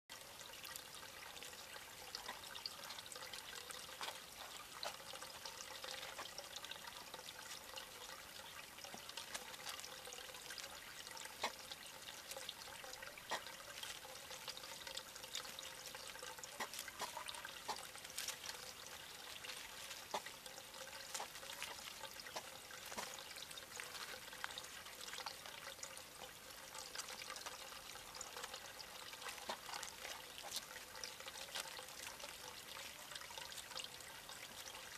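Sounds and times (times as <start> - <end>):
trickle of running water: 0.1 - 34.9.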